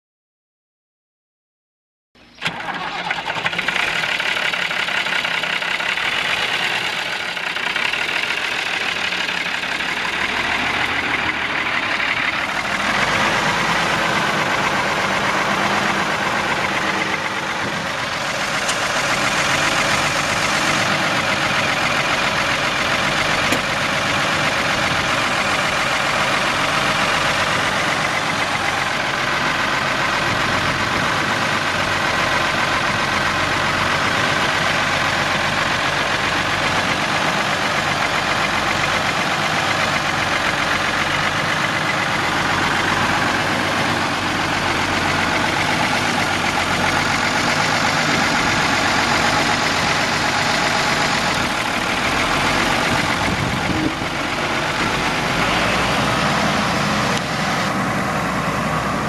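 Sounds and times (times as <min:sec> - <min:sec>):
tractor diesel engine running: 0:02.2 - 0:59.0.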